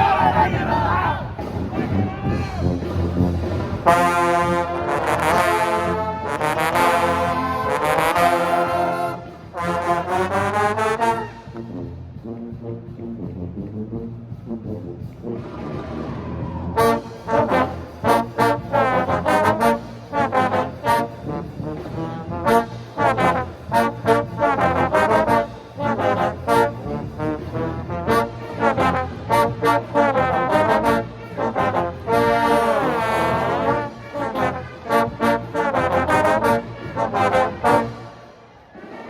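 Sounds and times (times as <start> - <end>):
trombones playing: 0.0 - 39.0.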